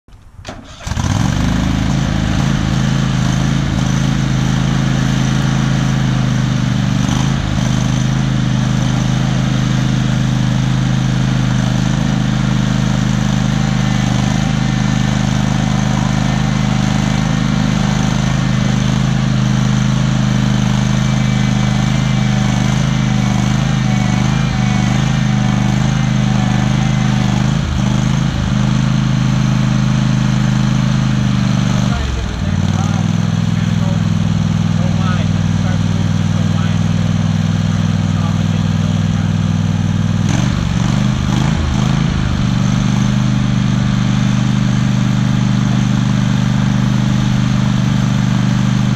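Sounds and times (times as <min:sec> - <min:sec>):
riding lawn mower engine: 0:00.1 - 0:48.9.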